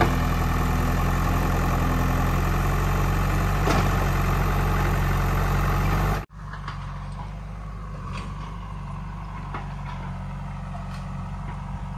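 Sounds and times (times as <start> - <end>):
diesel engine running: 0.0 - 11.9.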